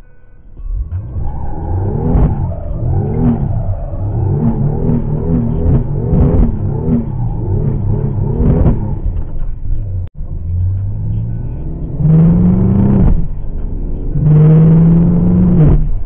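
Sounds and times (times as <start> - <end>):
car engine revving: 0.4 - 16.0.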